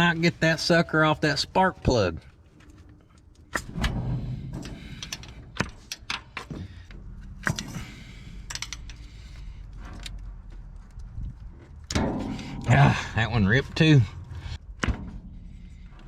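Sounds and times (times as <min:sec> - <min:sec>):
clicks and rattles of wire boot: 0:01.6 - 0:16.0.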